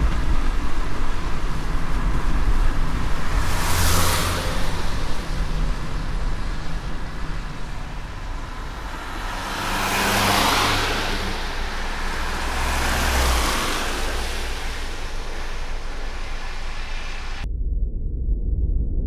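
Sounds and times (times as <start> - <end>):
steady rain: 0.0 - 17.4
vehicles passing on wet road: 0.0 - 17.4.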